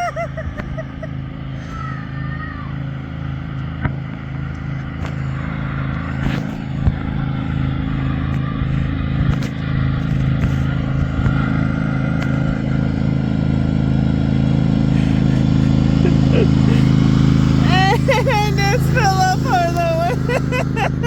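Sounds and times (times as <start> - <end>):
riding lawn mower engine: 0.0 - 21.0.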